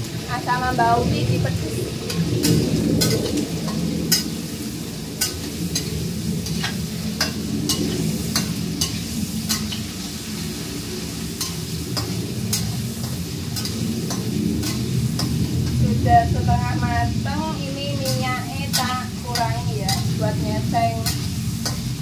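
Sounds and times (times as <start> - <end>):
shrimp sizzling in oil: 0.0 - 22.0
metal spatula scraping a wok: 1.9 - 22.0.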